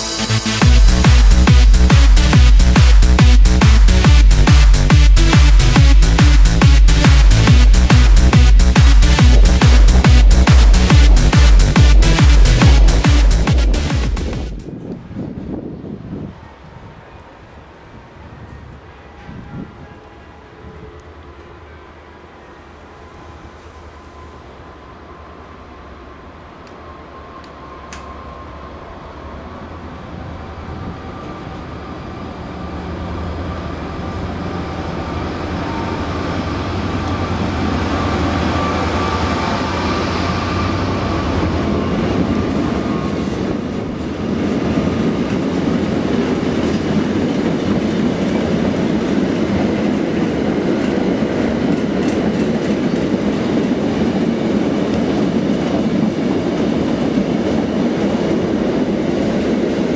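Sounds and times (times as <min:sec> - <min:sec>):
locomotive engine drone and whine: 0:00.0 - 0:15.8, 0:18.6 - 0:59.9
train wheels rumbling on rails: 0:00.0 - 0:17.1, 0:23.4 - 0:59.9.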